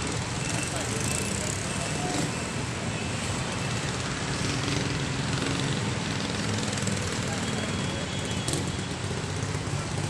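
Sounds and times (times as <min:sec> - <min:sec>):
highway traffic noise: 0:00.0 - 0:10.0.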